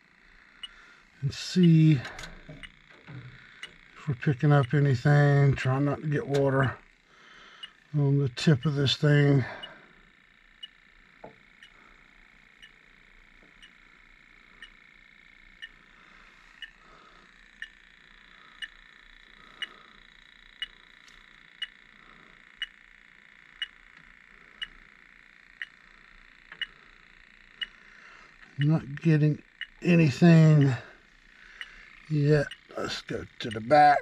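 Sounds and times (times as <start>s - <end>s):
leak detector beeping: 0.0s - 7.0s, 7.6s - 34.0s.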